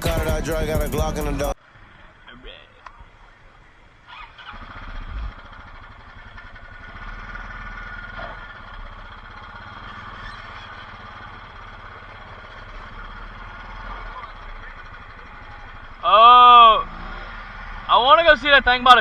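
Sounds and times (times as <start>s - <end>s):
engine running with low pulse: 0.0s - 19.0s.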